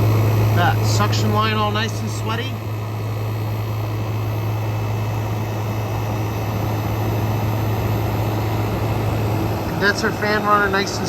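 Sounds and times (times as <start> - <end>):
air conditioner fan rushing: 0.0 - 11.0
low even hum: 0.0 - 11.0.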